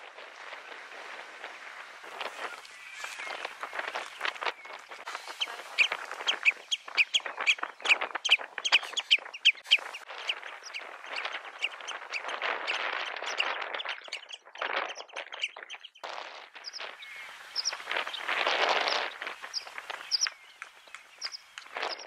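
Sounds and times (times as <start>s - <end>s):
wild birds chirping: 0.2s - 22.0s.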